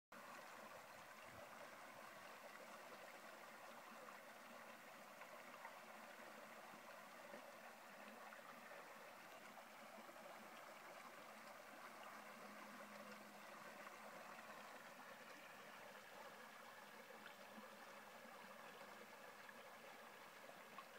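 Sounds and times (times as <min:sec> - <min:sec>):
creek water flowing over gravel: 0:00.2 - 0:20.9.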